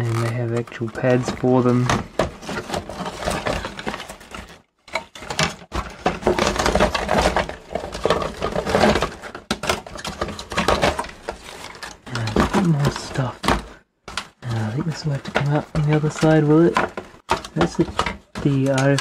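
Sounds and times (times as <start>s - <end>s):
circuit boards and wires rattling: 0.0s - 19.0s.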